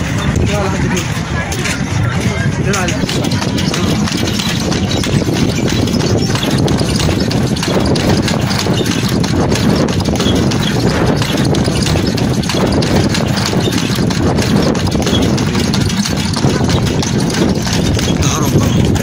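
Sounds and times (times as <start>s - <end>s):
carriage wheels rumbling on road: 0.0s - 19.0s
horse hooves clip-clopping on asphalt: 0.0s - 19.0s.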